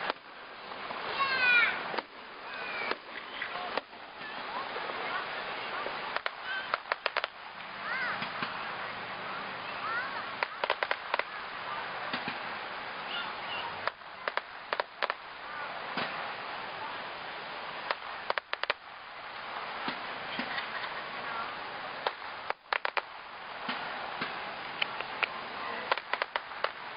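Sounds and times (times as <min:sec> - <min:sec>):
fireworks popping and crackling: 0:00.0 - 0:08.8, 0:09.8 - 0:17.0, 0:17.6 - 0:26.9
steady background hiss: 0:00.0 - 0:26.9.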